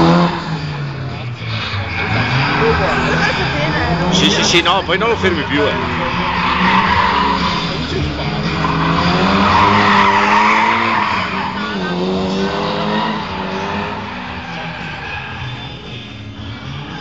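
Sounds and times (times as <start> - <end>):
car engine revving: 0.0 - 17.0
tyres skidding: 0.0 - 17.0.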